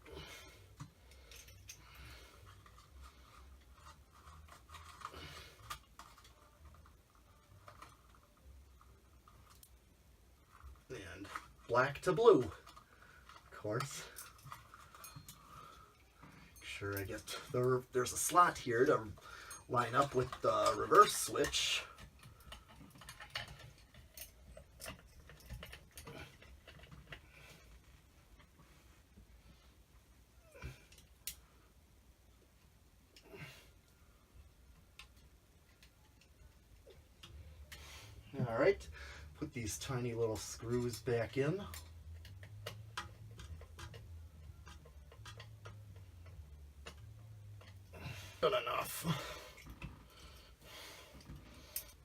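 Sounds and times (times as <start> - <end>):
wires rubbing and scraping: 0.0 - 52.0
small parts clicking and rattling: 0.1 - 52.0.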